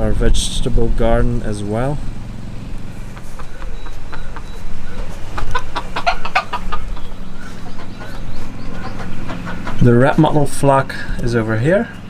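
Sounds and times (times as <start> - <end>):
chickens clucking: 0.8 - 12.0.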